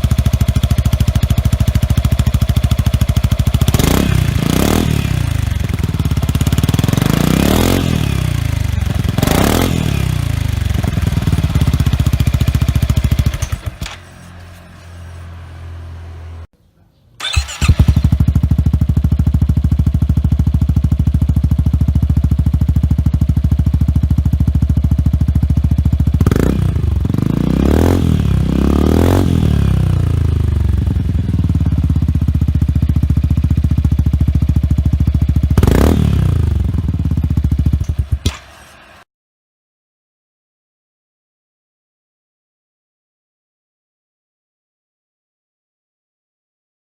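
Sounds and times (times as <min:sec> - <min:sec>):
scooter engine idling and revving: 0:00.0 - 0:16.5, 0:17.2 - 0:39.1.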